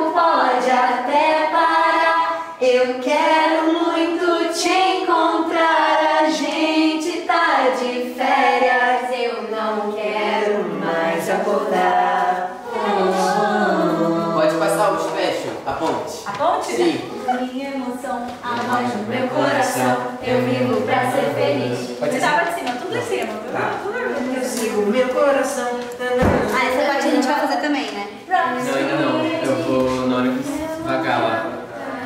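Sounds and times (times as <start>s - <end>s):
group singing together: 0.0s - 32.0s.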